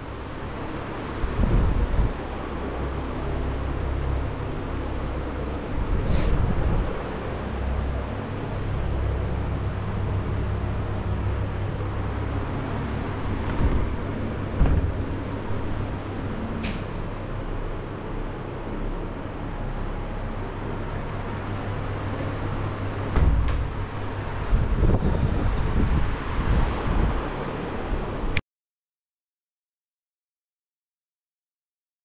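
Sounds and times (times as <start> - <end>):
low hum: 0.0 - 27.2.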